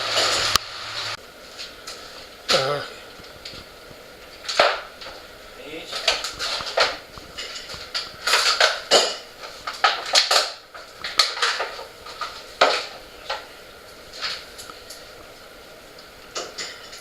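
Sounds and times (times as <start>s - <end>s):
faint rain patter: 0.0s - 17.0s.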